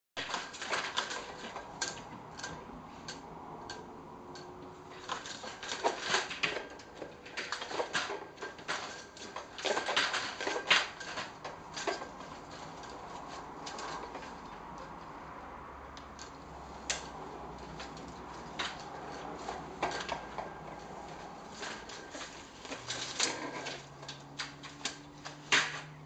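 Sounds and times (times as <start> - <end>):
blind slats clattering: 0.2 - 26.0.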